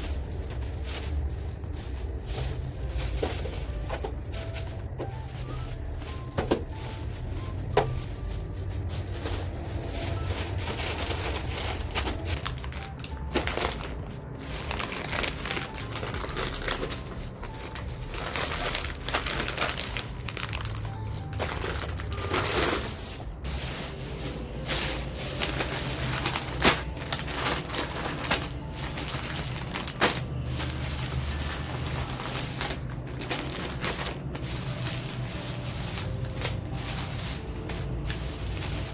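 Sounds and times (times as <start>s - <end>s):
background music: 0.0s - 38.9s
plastic packaging crinkling: 0.0s - 38.9s.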